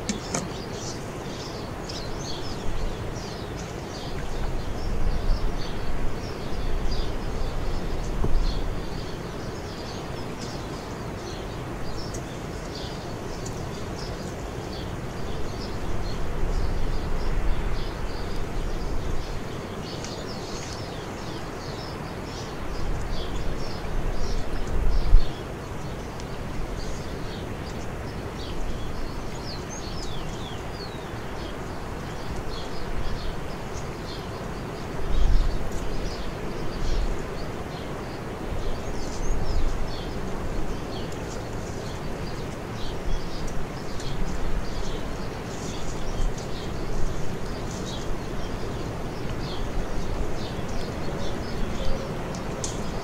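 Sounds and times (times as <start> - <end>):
outdoor background noise: 0.0 - 53.0
small birds chirping: 0.0 - 53.0.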